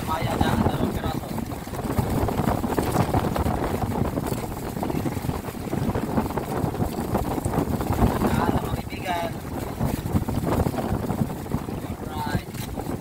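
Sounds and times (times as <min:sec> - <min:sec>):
sea noise: 0:00.0 - 0:13.0
wind buffeting microphone: 0:00.0 - 0:13.0.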